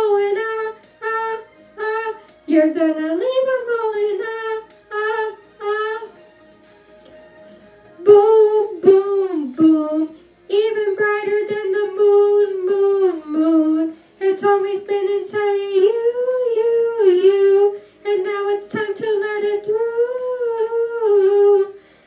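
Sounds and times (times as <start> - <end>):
girl singing wordless notes: 0.0 - 22.0.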